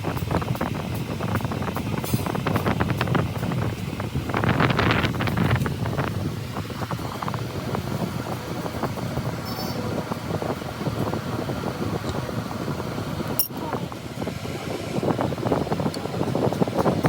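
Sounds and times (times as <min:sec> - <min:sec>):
mechanical running noise: 0:00.0 - 0:17.0.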